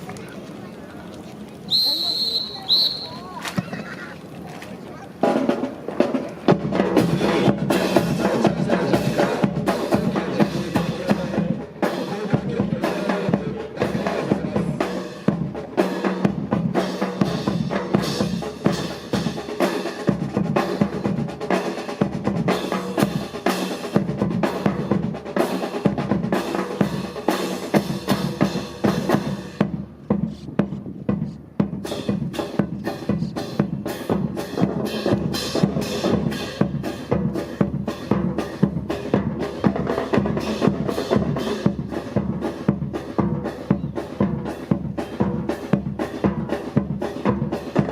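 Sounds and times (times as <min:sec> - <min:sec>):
marching snare and bass drums: 0:01.7 - 0:04.2, 0:05.0 - 0:47.9.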